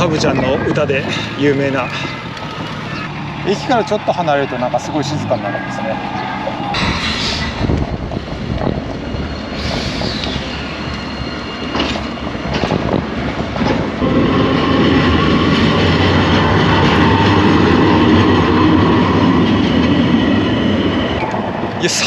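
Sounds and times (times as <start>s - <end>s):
tram wheels clattering on rails: 0.0s - 5.4s, 6.0s - 22.0s
tram wheels and motor whining: 0.0s - 22.0s.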